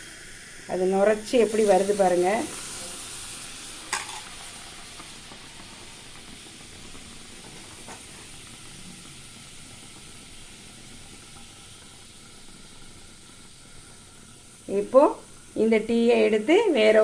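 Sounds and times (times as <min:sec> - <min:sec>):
milk tea sizzling in clay pot: 0:00.0 - 0:17.0.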